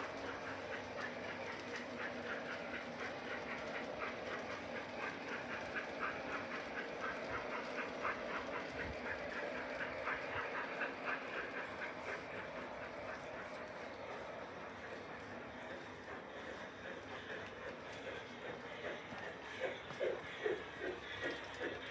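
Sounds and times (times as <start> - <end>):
model train clicking on track: 0.0 - 21.9
model train running rumble: 0.0 - 21.9.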